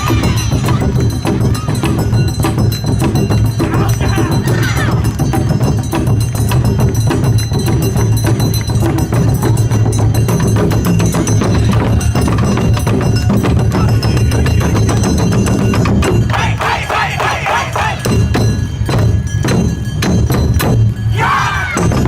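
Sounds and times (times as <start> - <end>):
taiko drums: 0.0 - 22.0.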